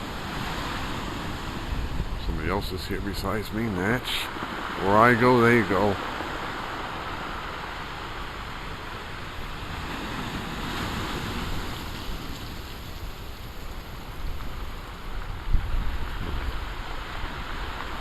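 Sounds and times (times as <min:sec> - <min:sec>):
waves breaking on shore: 0:00.0 - 0:18.0.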